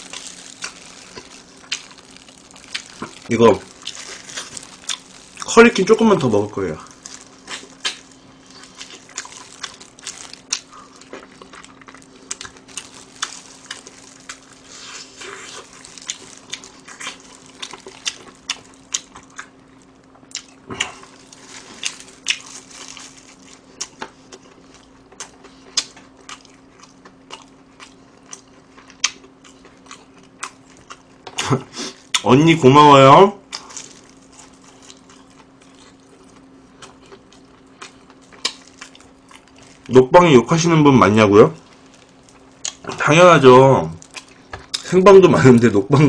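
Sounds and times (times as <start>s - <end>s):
crunching fried chicken: 0.0s - 46.0s
faint steady hum: 0.0s - 46.0s.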